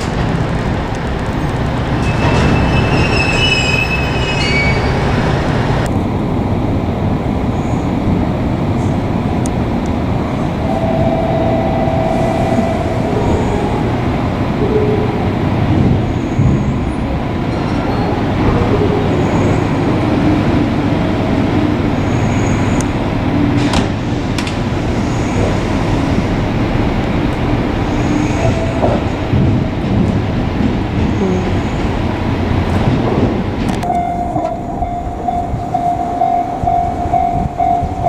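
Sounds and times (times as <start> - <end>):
electric train rumbling: 0.0 - 38.0.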